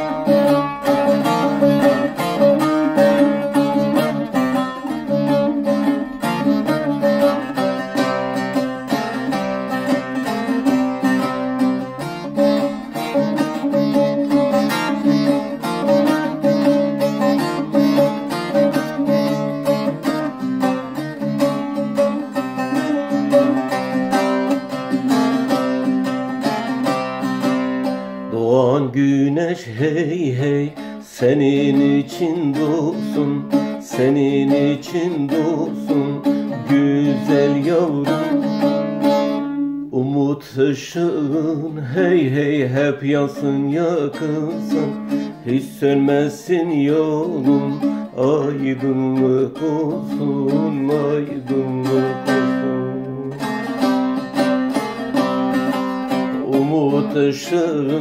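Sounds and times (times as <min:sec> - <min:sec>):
long-necked lute folk melody: 0:00.0 - 0:58.0.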